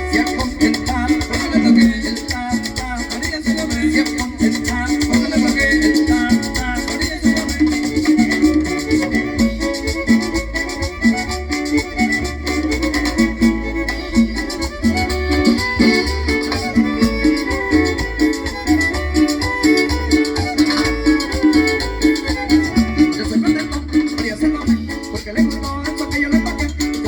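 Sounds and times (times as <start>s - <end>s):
violin melody: 0.0s - 3.0s, 3.8s - 26.0s
upright bass line: 0.0s - 27.0s.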